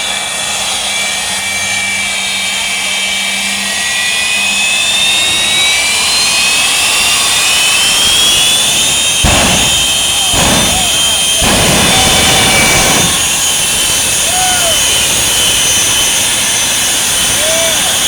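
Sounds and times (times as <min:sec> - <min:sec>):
jet engine roaring and whining: 0:00.0 - 0:18.0.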